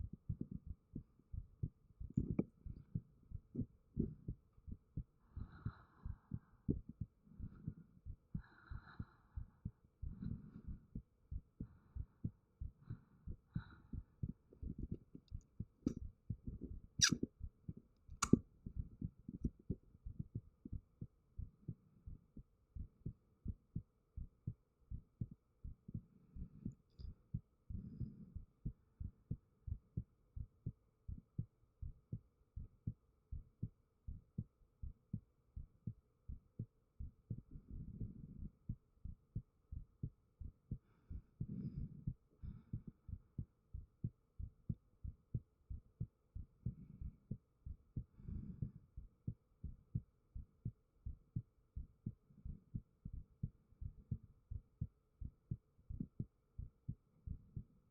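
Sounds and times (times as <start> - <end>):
heartbeat thumps: 0.0 - 57.7.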